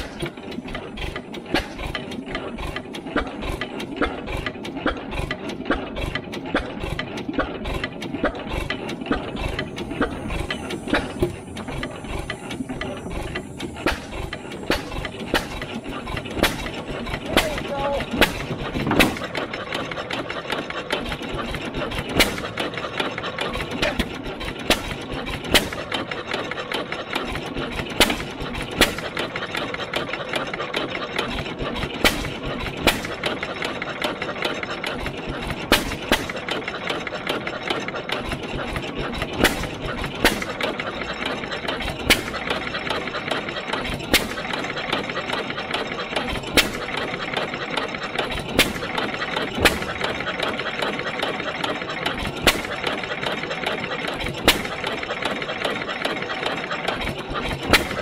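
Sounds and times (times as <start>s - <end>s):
engine mechanical clatter: 0.0s - 58.0s.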